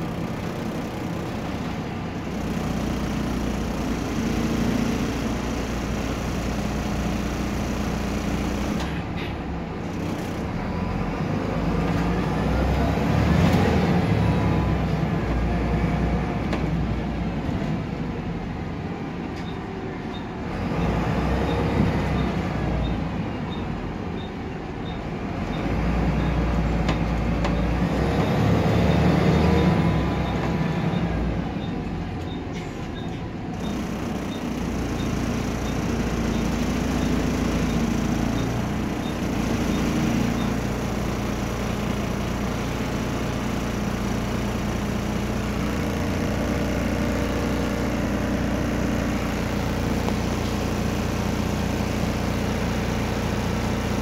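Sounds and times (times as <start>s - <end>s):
bus diesel engine revving: 0.0s - 54.0s.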